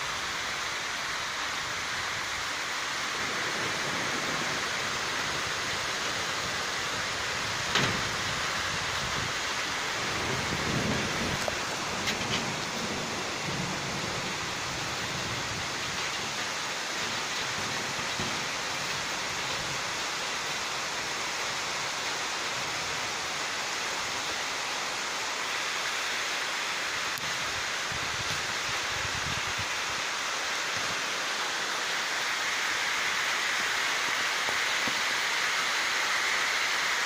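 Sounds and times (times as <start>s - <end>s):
heavy rain on roofs: 0.0s - 37.0s.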